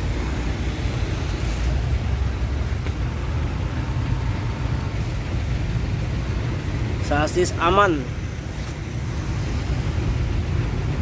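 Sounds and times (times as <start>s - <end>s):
low rumble of motor vehicle: 0.0s - 11.0s.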